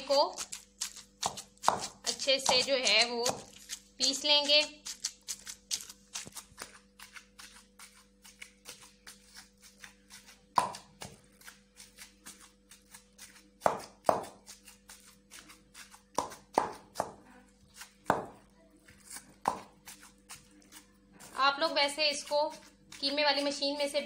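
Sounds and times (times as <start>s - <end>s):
pestle pounding meat in a bowl: 0.1s - 17.2s, 18.0s - 18.4s, 19.4s - 24.0s.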